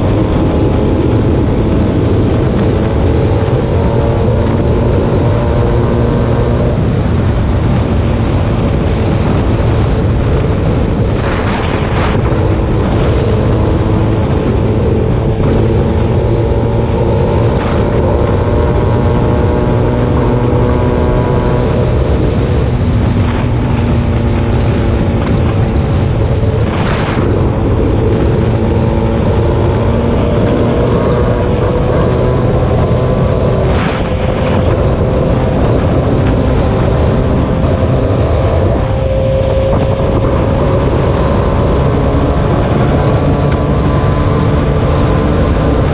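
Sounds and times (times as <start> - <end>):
vehicle engine running: 0.0 - 45.9
wind noise on microphone: 0.0 - 45.9.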